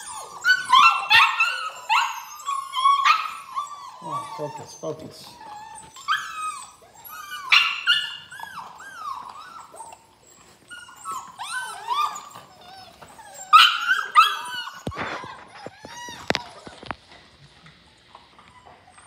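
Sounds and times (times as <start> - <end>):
puppies whining and yipping: 0.0 - 19.0.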